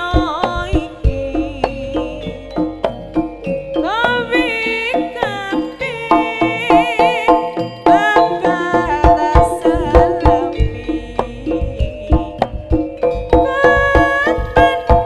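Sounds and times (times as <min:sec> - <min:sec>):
hand drums beating: 0:00.0 - 0:15.0
metallophones and gongs: 0:00.0 - 0:15.0
wavering melodic lead: 0:00.0 - 0:15.0.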